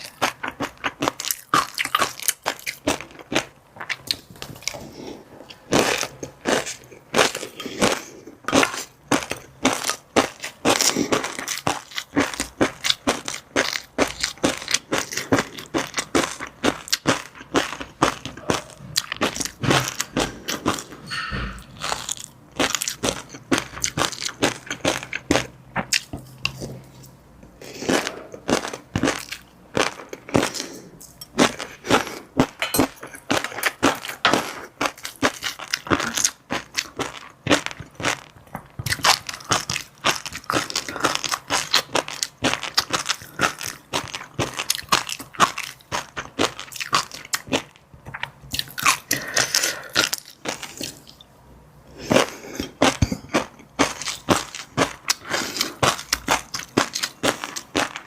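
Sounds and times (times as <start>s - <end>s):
crunchy food being chewed: 0.0s - 21.0s, 21.8s - 51.3s, 51.9s - 58.0s.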